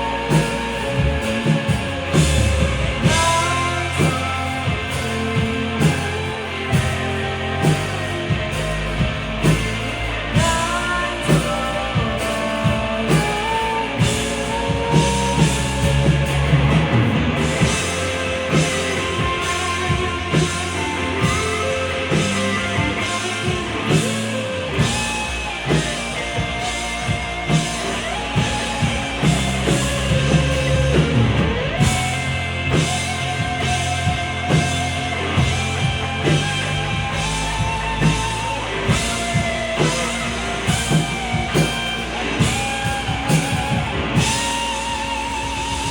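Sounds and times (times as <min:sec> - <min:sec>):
bass guitar: 0:00.0 - 0:45.9
drum kit beat: 0:00.0 - 0:45.9
electric guitar melody: 0:00.0 - 0:45.9.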